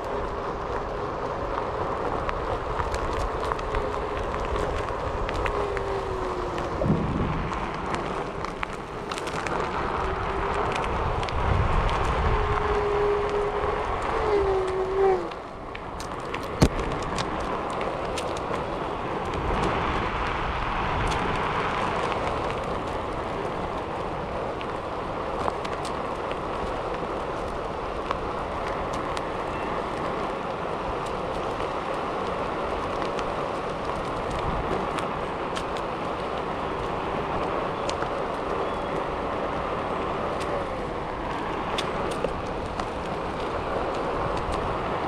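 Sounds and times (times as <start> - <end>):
wind on microphone: 0.0 - 45.0.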